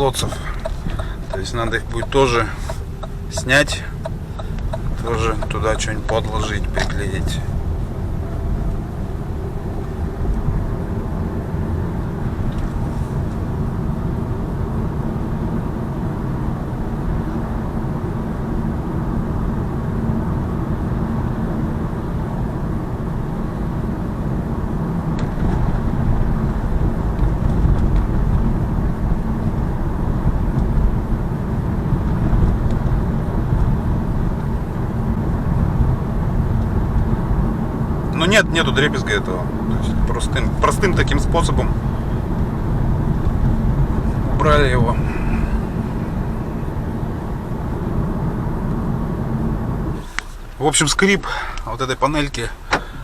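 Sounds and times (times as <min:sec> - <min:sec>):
low tyre and suspension rumble: 0:00.0 - 0:53.0.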